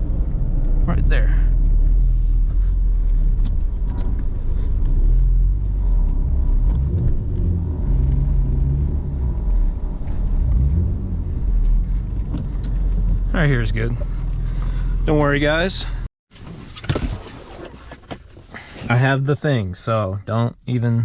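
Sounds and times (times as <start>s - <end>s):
car engine and tyres rumbling: 0.0s - 16.9s.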